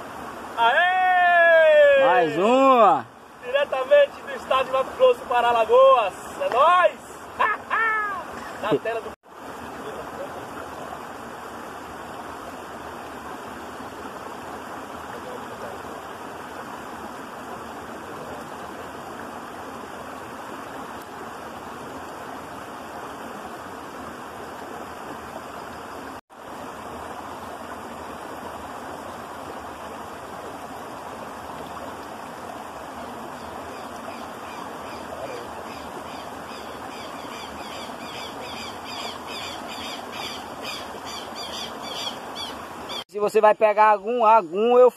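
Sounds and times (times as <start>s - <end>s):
stream rushing over stones: 0.0s - 44.9s.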